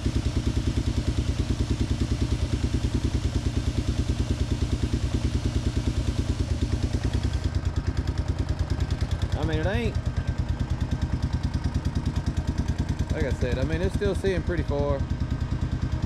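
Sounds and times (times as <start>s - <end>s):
atv engine idling: 0.0s - 16.0s.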